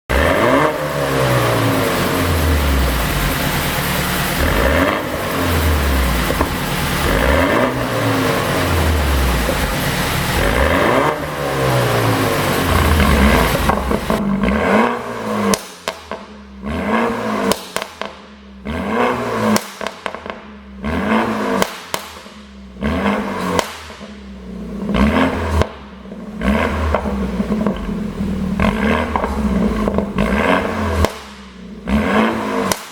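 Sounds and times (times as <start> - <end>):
car engine revving: 0.1 - 32.9
exhaust popping and crackling: 0.1 - 32.9.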